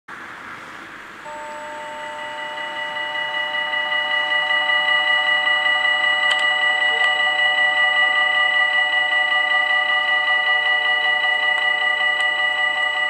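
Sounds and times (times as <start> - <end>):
level crossing warning bells: 1.2 - 13.0.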